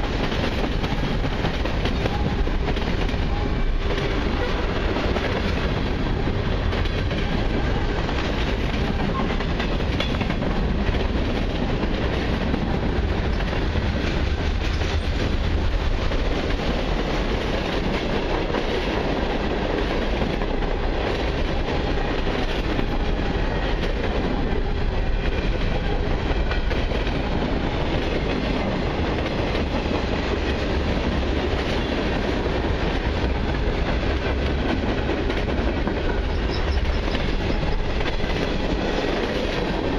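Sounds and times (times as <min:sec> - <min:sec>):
train wheels rumbling on rails: 0:00.0 - 0:39.9
wheels clacking over rail joints: 0:00.0 - 0:39.9.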